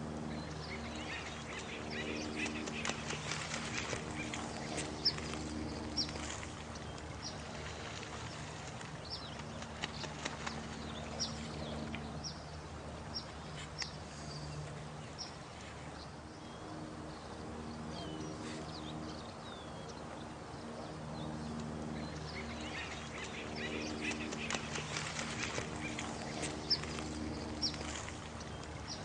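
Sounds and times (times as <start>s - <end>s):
running water: 0.0s - 17.4s, 21.8s - 29.0s.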